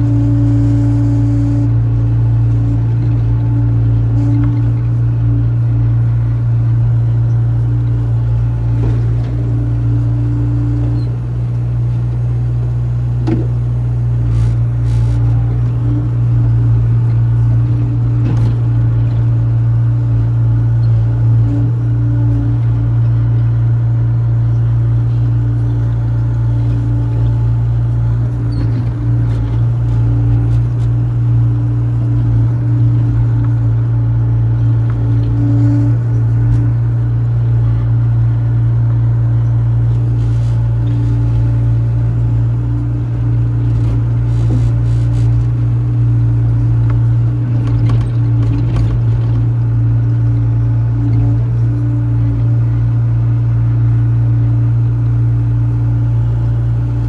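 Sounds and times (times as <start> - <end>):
excavator diesel engine droning: 0.0 - 57.0.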